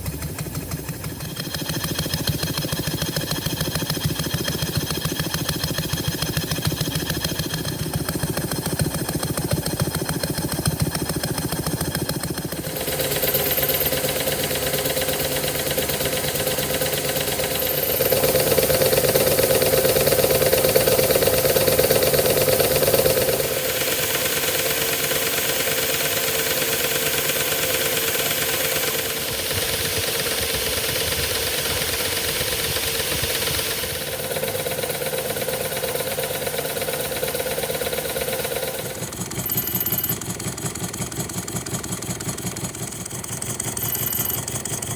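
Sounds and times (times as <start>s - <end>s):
miniature engine running: 0.0s - 44.9s.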